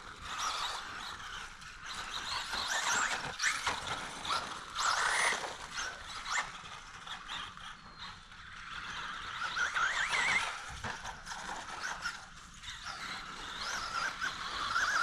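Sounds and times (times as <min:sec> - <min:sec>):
electric motor whining: 0:00.1 - 0:15.0.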